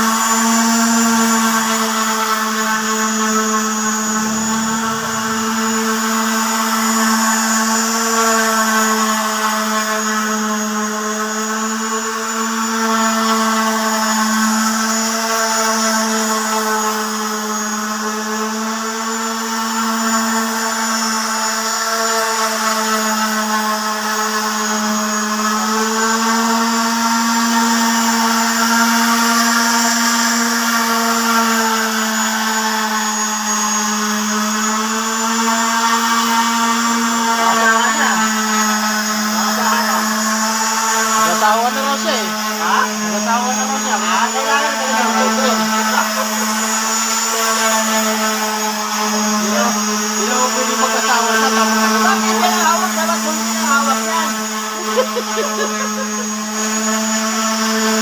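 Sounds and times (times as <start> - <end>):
electric sander running: 0.0 - 58.0.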